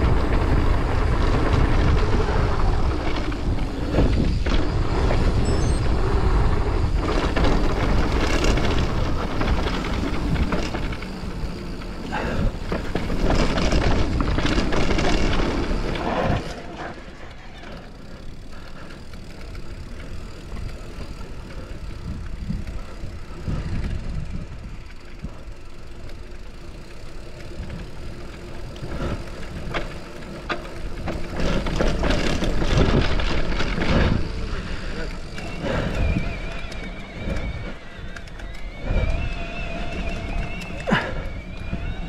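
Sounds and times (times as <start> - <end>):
wind rumble on microphone: 0.0 - 17.5, 19.6 - 25.7, 27.1 - 42.0
tyres rolling over gravel: 0.0 - 42.0.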